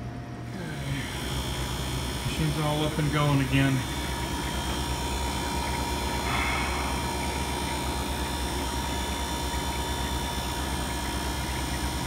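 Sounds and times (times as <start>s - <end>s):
ice machine humming: 0.0s - 12.0s.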